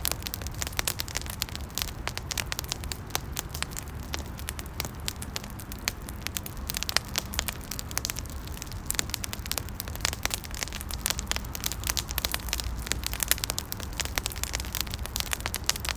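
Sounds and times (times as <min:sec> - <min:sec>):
low rumble of flames: 0:00.0 - 0:15.9
wood crackling and popping: 0:00.0 - 0:15.9.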